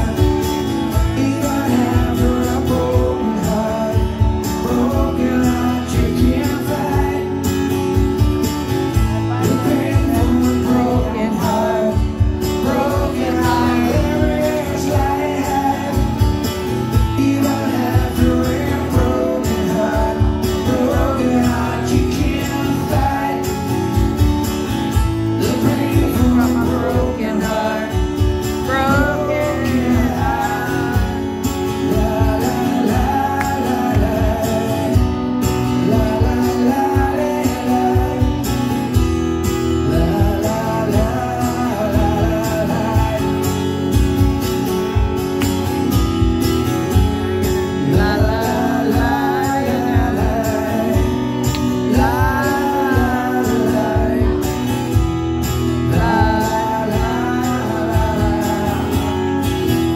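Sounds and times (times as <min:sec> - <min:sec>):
man singing rock ballad: 0:00.0 - 0:59.9
strummed acoustic guitar: 0:00.0 - 0:59.9.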